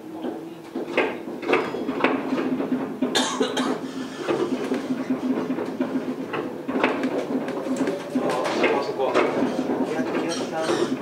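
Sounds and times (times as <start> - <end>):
monorail car humming: 0.0 - 11.0
knocks and rattles: 0.7 - 11.0.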